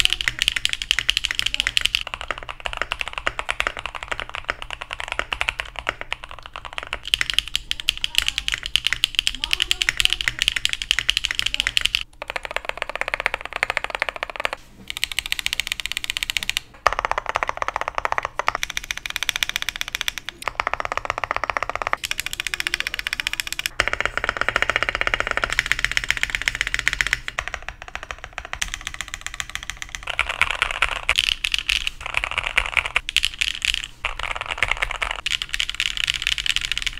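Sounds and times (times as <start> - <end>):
mechanical keyboard typing: 0.0 - 36.9.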